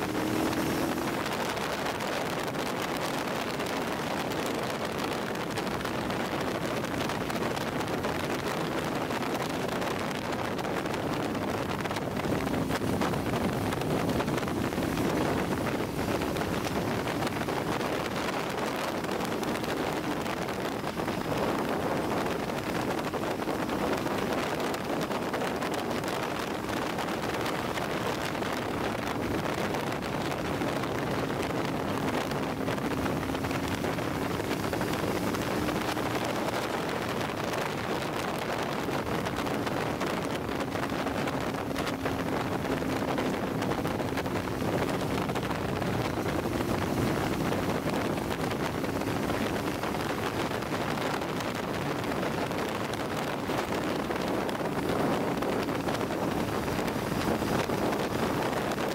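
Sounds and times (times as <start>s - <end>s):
motorcycle engine hum: 0.0s - 58.9s
wind rushing over microphone: 0.0s - 58.9s.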